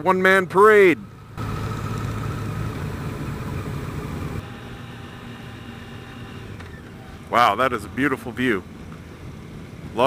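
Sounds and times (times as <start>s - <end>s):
wind and road noise: 0.0s - 10.0s
motorcycle engine cruising: 1.0s - 9.9s.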